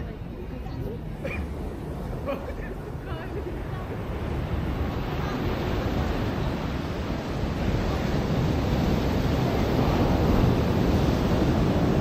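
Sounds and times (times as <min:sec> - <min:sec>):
ocean surf washing onto beach: 0:00.0 - 0:12.0
wind rumble on microphone: 0:00.0 - 0:12.0.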